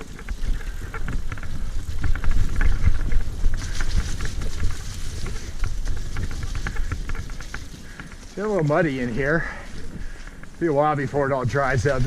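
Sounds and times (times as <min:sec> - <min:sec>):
bike rumbling on dirt trail: 0:00.0 - 0:12.0.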